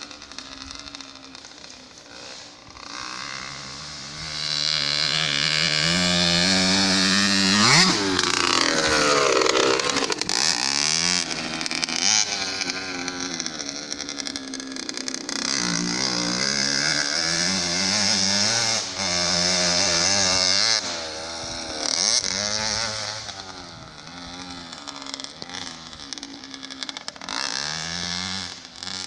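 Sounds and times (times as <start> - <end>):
motocross bike engine passing and revving: 0.0 - 29.0.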